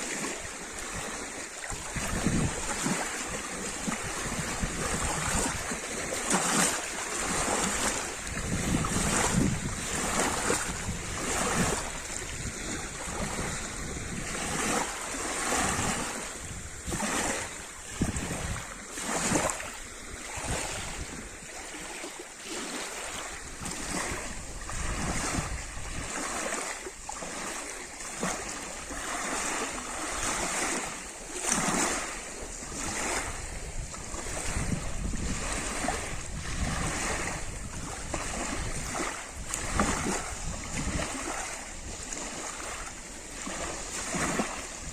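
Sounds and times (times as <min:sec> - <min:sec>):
water lapping against shore: 0:00.0 - 0:44.9
wind rumble on microphone: 0:00.0 - 0:44.9.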